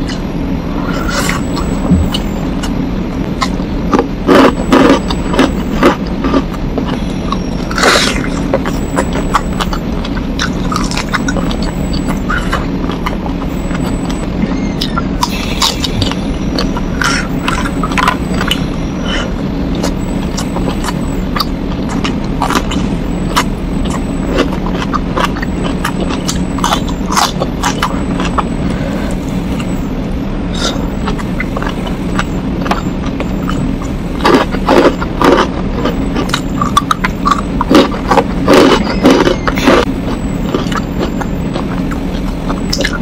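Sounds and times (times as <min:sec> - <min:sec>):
steady low hum: 0:00.0 - 0:43.0
person chewing and smacking: 0:00.9 - 0:29.8, 0:30.5 - 0:43.0.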